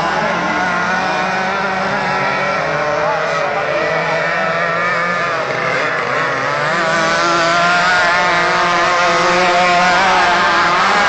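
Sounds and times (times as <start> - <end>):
racing powerboat engines whining: 0.0 - 11.0.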